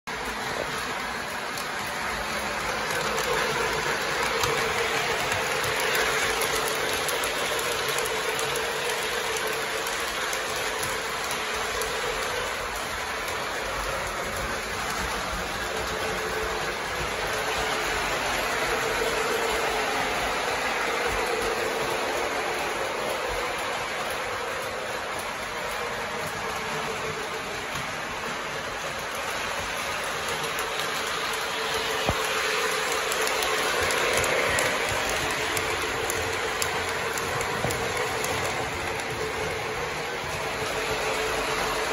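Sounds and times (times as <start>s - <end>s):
model train rolling on track: 0.1s - 41.9s
wheels ticking over rails: 0.1s - 41.9s.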